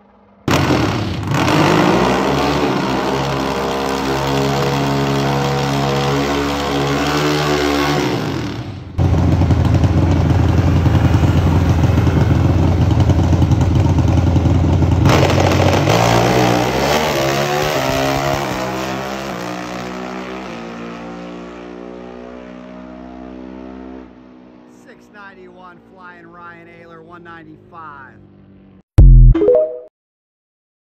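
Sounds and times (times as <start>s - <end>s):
drag motorcycle engine revving: 0.5s - 26.4s.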